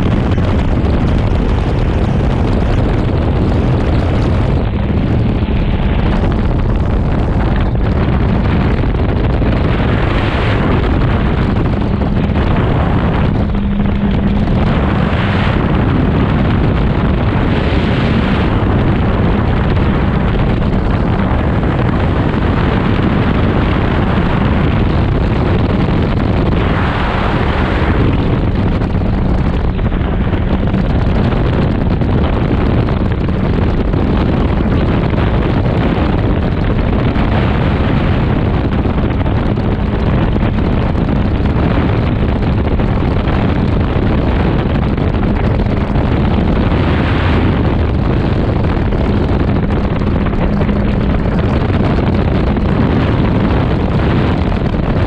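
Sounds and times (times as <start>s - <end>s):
engine and propeller drone: 0.0s - 55.0s
wind rushing on microphone: 0.0s - 55.0s.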